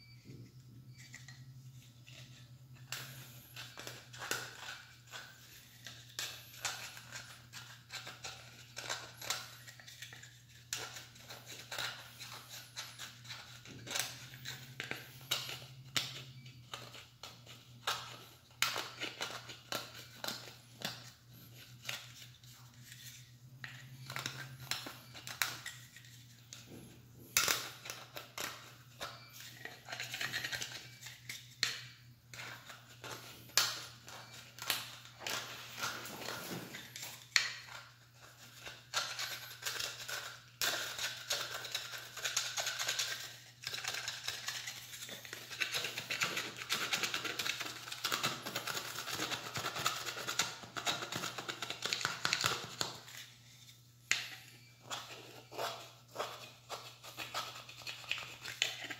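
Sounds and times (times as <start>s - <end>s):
knife scraping plastic: 0.9s - 58.9s.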